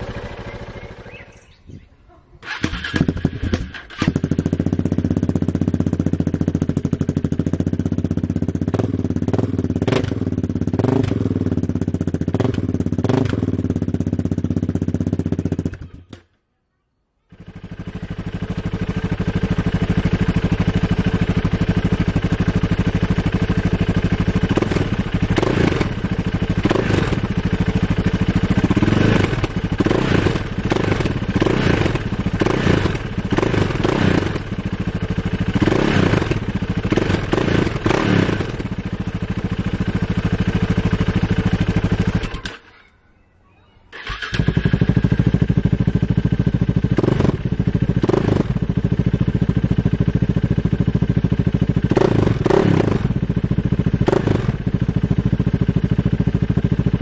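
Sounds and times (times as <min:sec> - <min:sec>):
motorcycle engine idling: 0:00.0 - 0:16.2, 0:17.3 - 0:42.6, 0:44.0 - 0:57.0.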